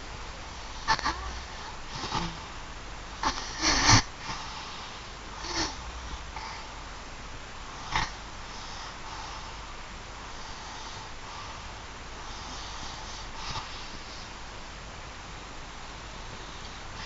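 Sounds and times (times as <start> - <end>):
steady faint hiss: 0.0 - 17.0.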